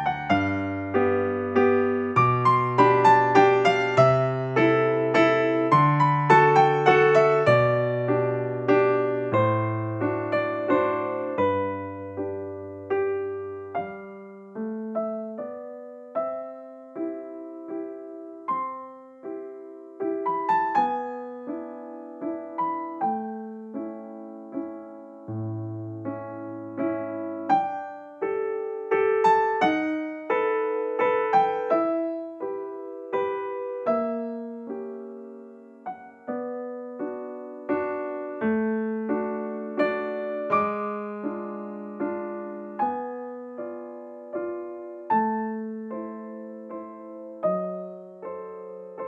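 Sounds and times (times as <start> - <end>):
gentle piano melody: 0.0 - 49.0.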